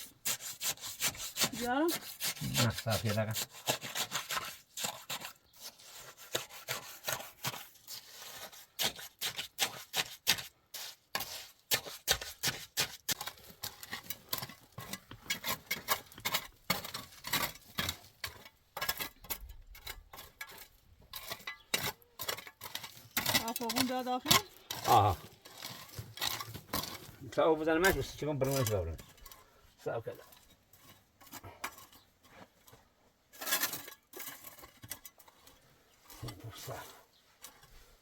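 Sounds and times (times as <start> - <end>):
hand tool scraping hard surface: 0.0 - 38.0.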